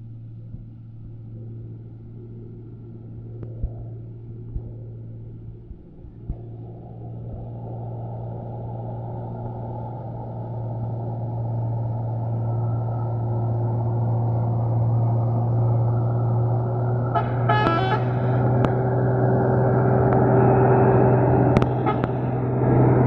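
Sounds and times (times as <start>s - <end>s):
truck diesel engine under load: 0.0s - 23.0s.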